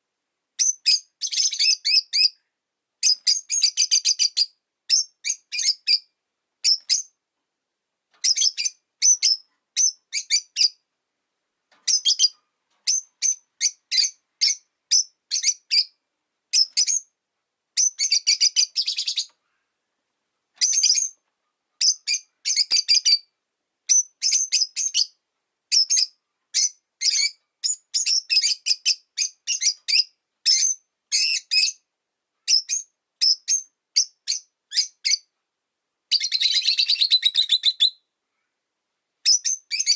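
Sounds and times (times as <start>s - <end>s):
lovebirds chirping: 0.6s - 7.2s, 8.1s - 10.9s, 11.7s - 17.2s, 17.8s - 19.4s, 20.6s - 35.3s, 36.1s - 38.1s, 39.2s - 39.9s.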